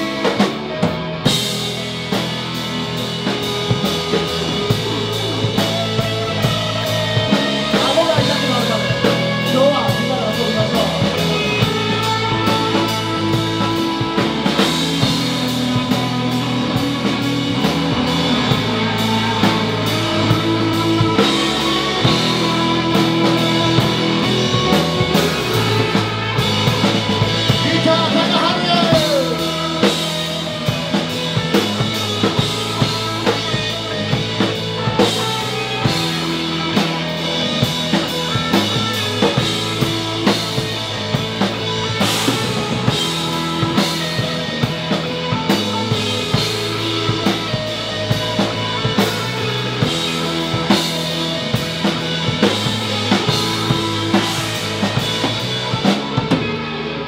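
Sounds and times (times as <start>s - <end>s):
drum kit beat: 0.0s - 57.0s
electric bass: 0.0s - 57.0s
electric guitars: 0.0s - 57.0s.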